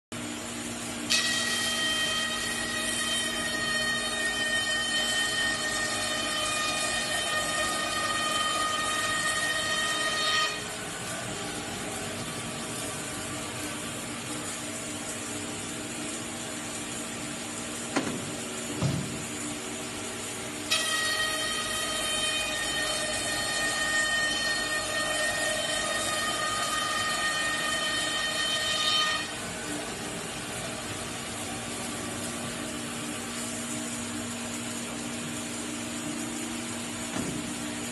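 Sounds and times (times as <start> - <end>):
machine hum: 0.2 - 37.9
cutting machine whine: 0.9 - 17.4, 18.0 - 35.7.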